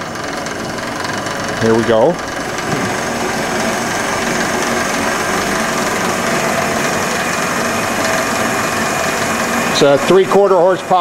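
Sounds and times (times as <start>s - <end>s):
band saw motor humming: 0.0s - 11.0s.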